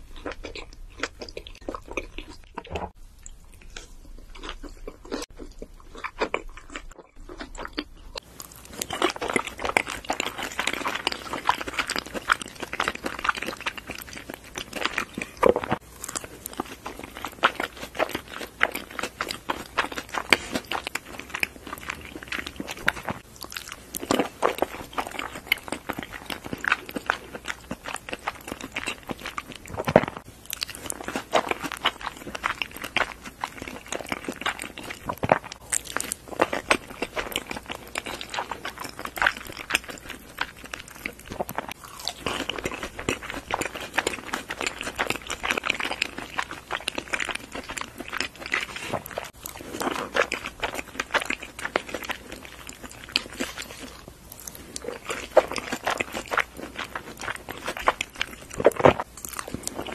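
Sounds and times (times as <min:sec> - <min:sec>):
wet chewing clicks and crunches: 0:00.0 - 0:59.9.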